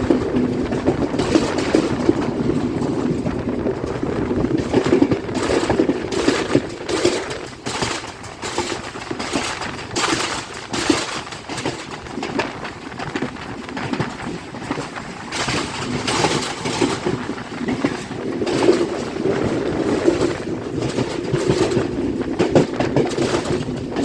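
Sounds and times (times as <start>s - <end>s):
clatter of knocks and rattles: 0.0s - 24.0s
train running noise: 0.0s - 24.0s.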